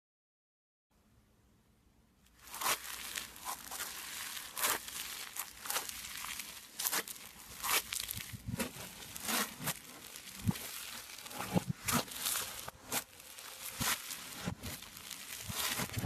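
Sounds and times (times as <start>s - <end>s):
foam slime crackling and popping: 2.3s - 16.0s.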